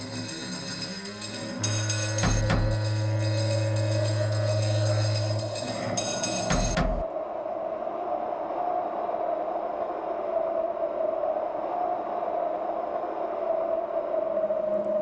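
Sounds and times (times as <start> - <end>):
airy drone: 0.0 - 15.0.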